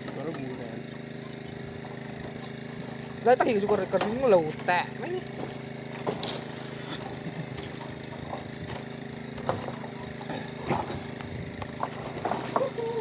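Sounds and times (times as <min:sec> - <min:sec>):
motor running: 0:00.0 - 0:13.0.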